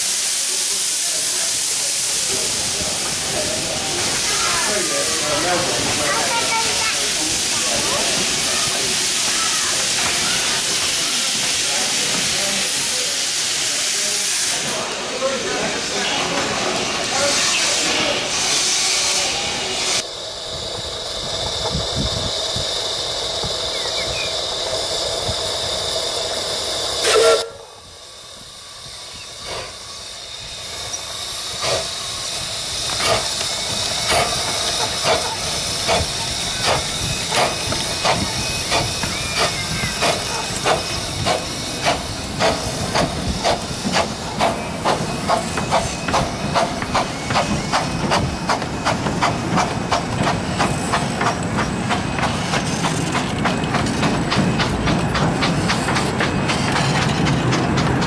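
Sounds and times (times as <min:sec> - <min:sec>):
steam hissing: 0:00.0 - 0:58.0
steam locomotive exhaust chuffs: 0:00.0 - 0:58.0.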